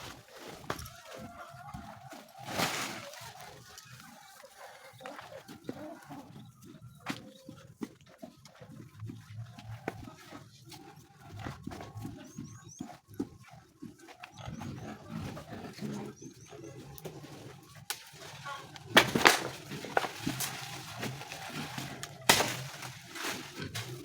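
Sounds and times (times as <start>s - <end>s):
low farm animal calls: 0.0s - 24.0s.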